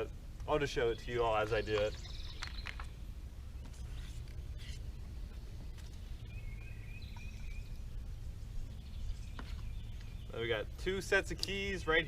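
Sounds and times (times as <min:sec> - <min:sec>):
low background rumble: 0:00.0 - 0:12.0
high warbling chirp: 0:00.8 - 0:10.6.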